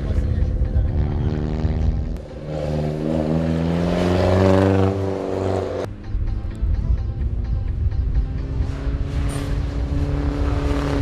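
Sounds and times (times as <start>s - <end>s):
car engine accelerating: 0.0s - 6.6s, 7.3s - 11.0s.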